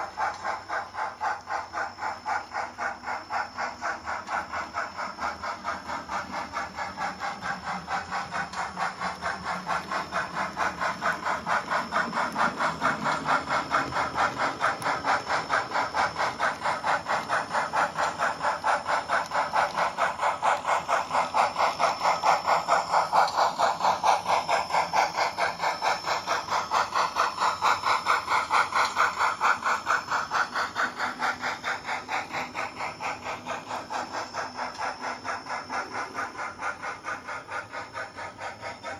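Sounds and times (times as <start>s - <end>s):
model steam locomotive chuffing: 0.0s - 38.9s.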